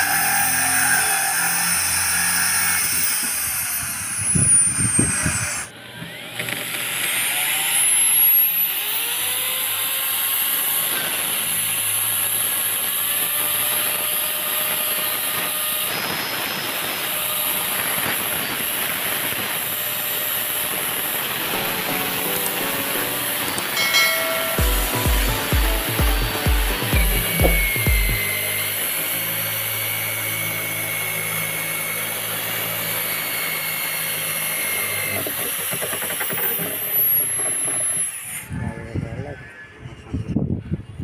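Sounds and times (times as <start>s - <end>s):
electric drill cutting plastic: 0.0s - 40.0s.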